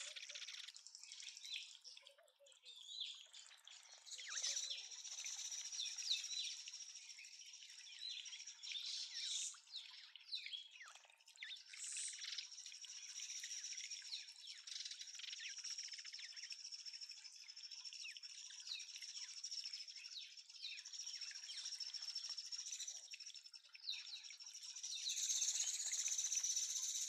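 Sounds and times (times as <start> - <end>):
fountain water trickling: 0.0 - 27.0
small birds chirping: 0.0 - 27.0.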